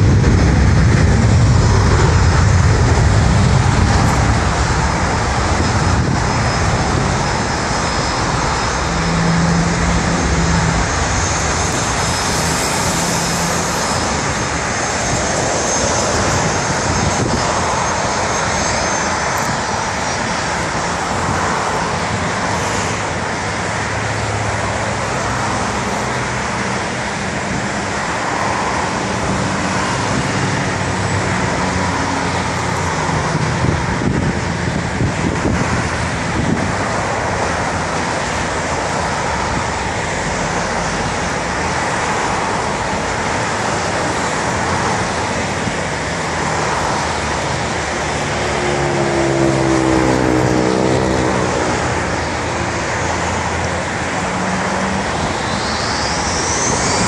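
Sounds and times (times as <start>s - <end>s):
jet engines running: 0.0s - 57.0s
road traffic passing: 0.0s - 57.0s.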